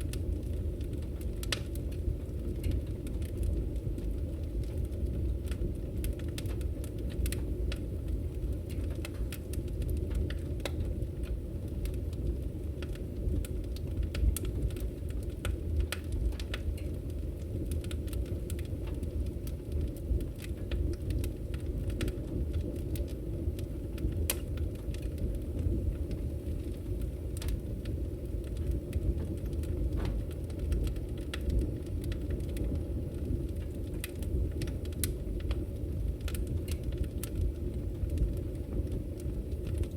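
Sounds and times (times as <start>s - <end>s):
fire low rumble: 0.0s - 39.9s
fire pops and snaps: 0.0s - 39.9s
wood fire crackling: 0.0s - 39.9s.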